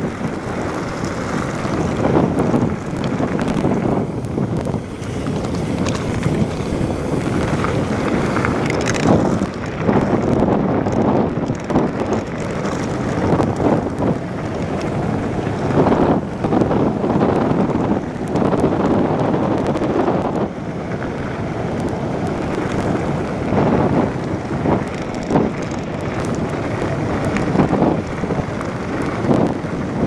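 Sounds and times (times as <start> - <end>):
bike clicks and knocks: 0.0 - 30.0
tyres rumbling on gravel: 0.0 - 30.0
wind buffeting microphone: 0.0 - 30.0.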